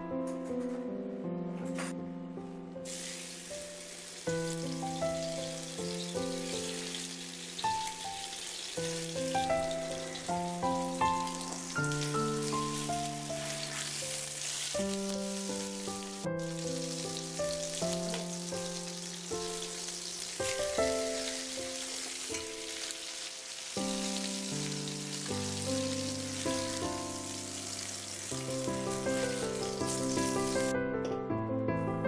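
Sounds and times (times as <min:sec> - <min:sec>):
instrumental background music: 0:00.0 - 0:32.0
meat sizzling in a frying pan: 0:02.9 - 0:30.7.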